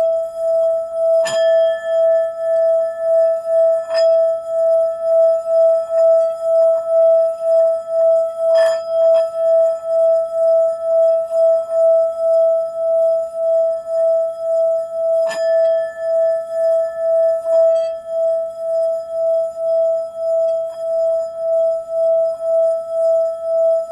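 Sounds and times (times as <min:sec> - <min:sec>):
singing bowl ringing: 0:00.0 - 0:23.9.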